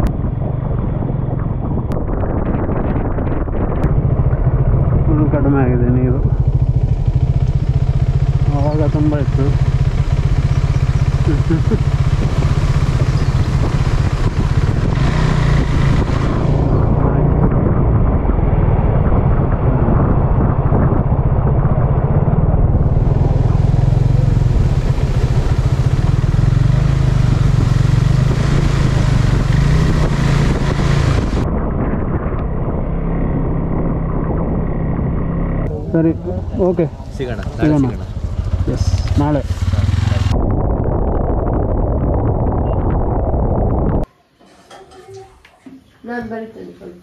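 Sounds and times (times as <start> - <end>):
motorcycle engine running: 0.0 - 44.1
road and wind noise: 0.0 - 44.2.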